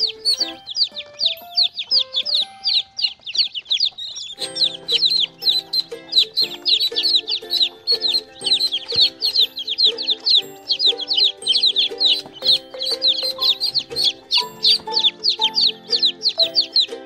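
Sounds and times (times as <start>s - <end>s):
baby chicks peeping: 0.0s - 17.0s
background music melody: 0.0s - 17.0s.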